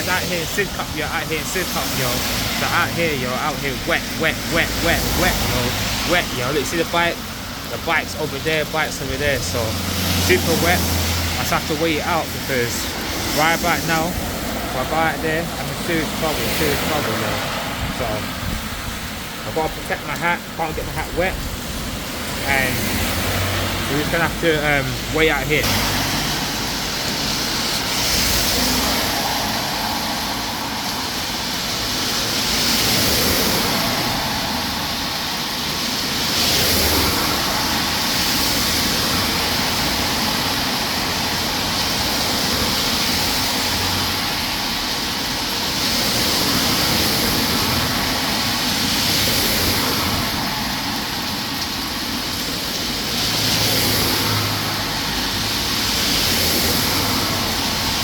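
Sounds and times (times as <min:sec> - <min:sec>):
heavy rain hissing: 0:00.0 - 0:58.0
traffic on wet road: 0:00.0 - 0:58.0.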